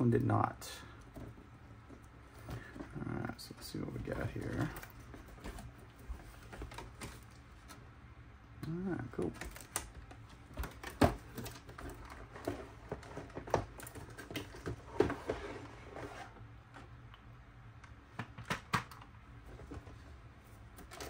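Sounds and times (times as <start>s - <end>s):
cardboard and plastic rustling: 0.9s - 7.9s, 8.8s - 17.0s, 18.4s - 21.0s.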